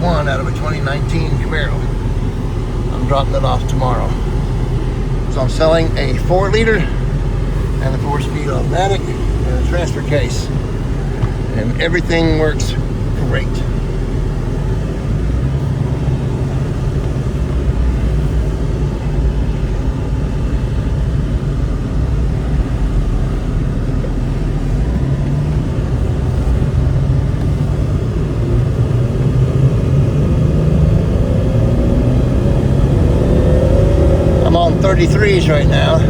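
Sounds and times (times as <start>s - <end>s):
car engine running: 0.0s - 36.0s
low road rumble: 0.0s - 36.0s
rising whine: 0.0s - 36.0s.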